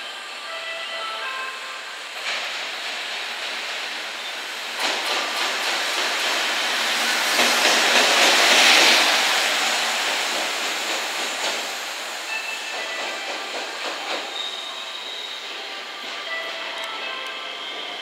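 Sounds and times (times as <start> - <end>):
electric locomotive passing: 0.0 - 18.0
train wheels clacking over rails: 2.2 - 18.0.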